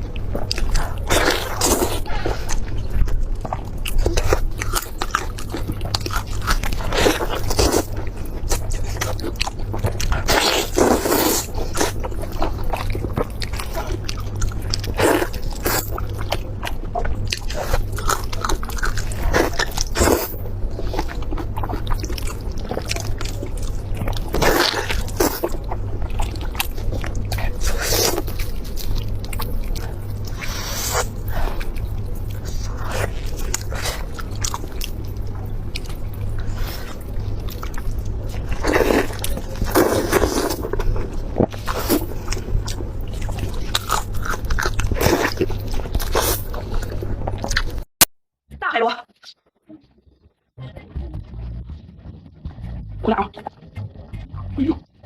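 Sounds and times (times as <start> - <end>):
close chewing and crunching: 0.0 - 47.9, 49.2 - 55.0
steady low hum: 0.0 - 47.9, 48.5 - 55.0.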